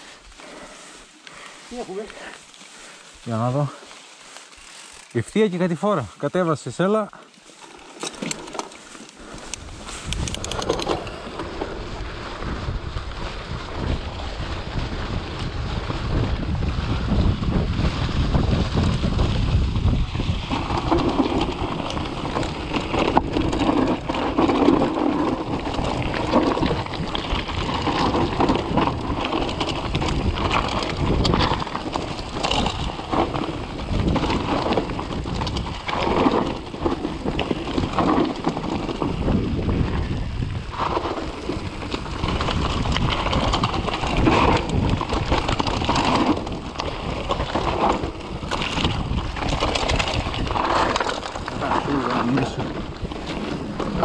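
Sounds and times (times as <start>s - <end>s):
bike rattling over bumps: 0.0s - 54.0s
wind on microphone: 9.2s - 54.0s.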